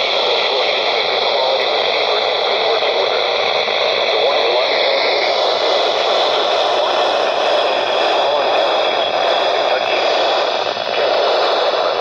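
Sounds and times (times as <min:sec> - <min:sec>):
faint voice in radio noise: 0:00.0 - 0:12.0
radio static hiss: 0:00.0 - 0:12.0.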